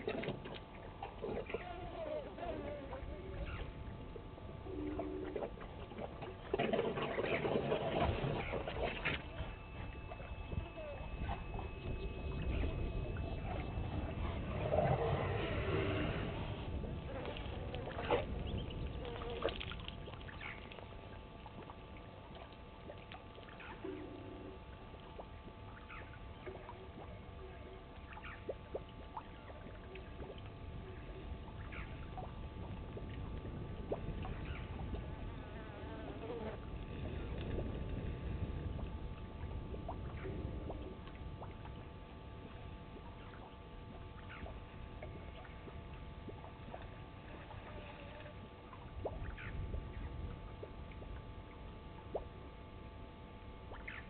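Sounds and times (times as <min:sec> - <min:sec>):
faint steady hum: 0:00.0 - 0:54.0
low rumbling background: 0:00.0 - 0:54.0
water dribbling and splashing: 0:00.0 - 0:54.0.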